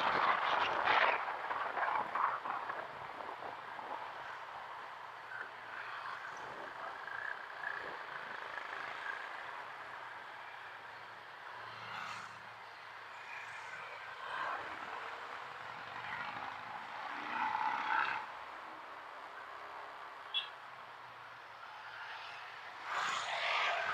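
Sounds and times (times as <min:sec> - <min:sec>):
traffic noise: 0:00.0 - 0:23.9.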